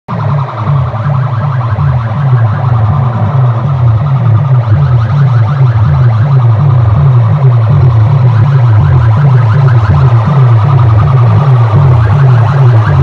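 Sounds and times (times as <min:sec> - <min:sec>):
loud electronic warbling tone: 0:00.1 - 0:13.0.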